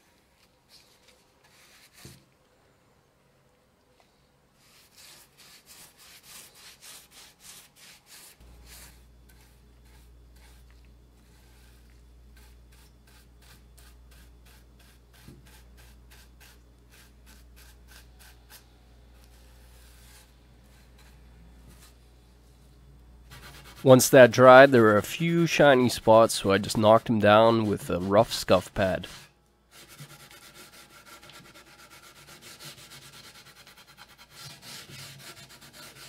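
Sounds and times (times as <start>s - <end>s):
paintbrush scratching on rough wood: 4.6s - 18.6s, 19.2s - 22.0s, 23.3s - 36.0s.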